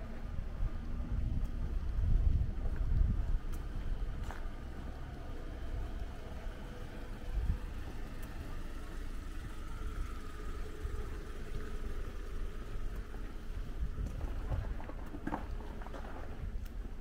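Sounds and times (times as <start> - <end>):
low rumble: 0.0 - 17.0
vehicle engine running: 0.0 - 17.0.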